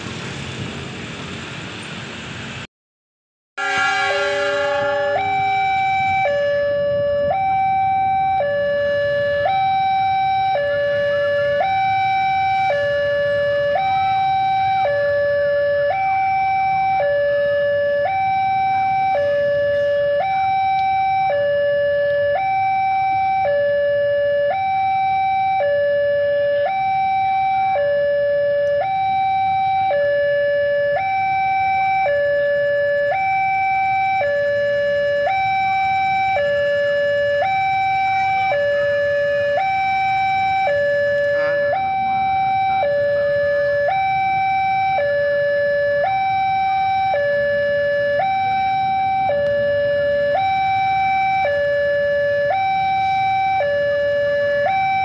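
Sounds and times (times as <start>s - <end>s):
two-tone warning alarm: 3.6s - 55.0s.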